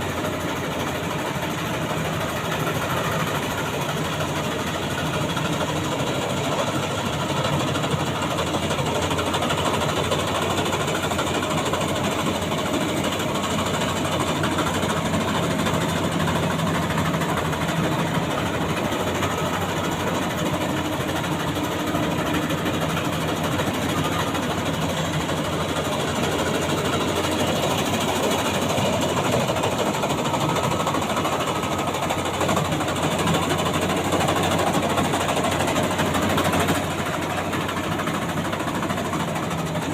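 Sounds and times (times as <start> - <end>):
combine harvester mechanical rattle: 0.0 - 39.9.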